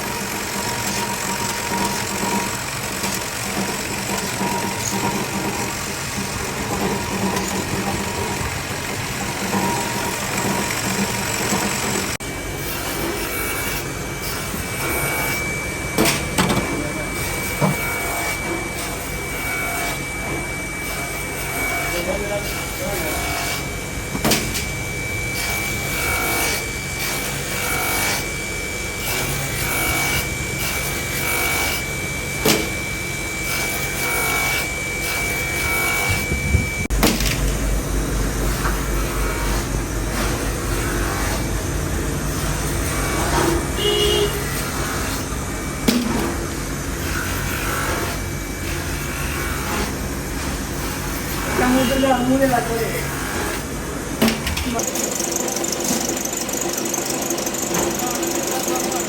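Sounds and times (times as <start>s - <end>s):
machine high whine: 0.0s - 59.0s.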